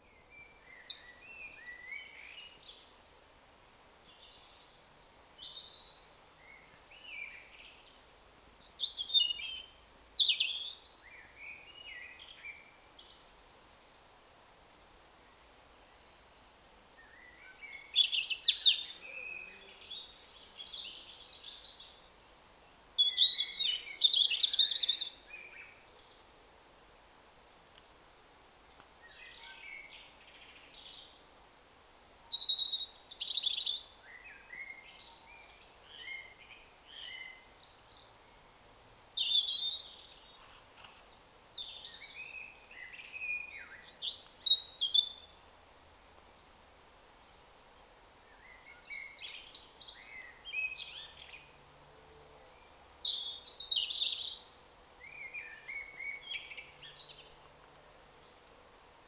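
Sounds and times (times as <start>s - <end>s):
birdsong: 0.0s - 27.4s, 28.8s - 45.9s, 47.1s - 59.0s
faint steady hiss: 0.0s - 59.0s.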